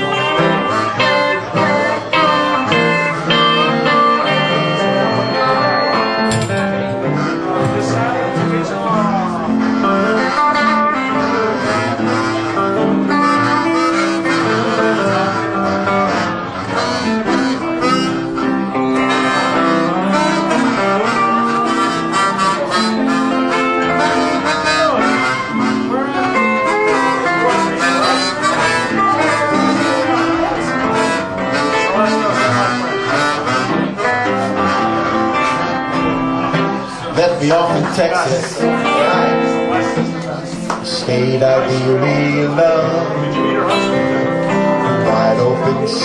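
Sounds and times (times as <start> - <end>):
harmonica melody: 0.0 - 46.0
strummed guitar: 0.0 - 46.0.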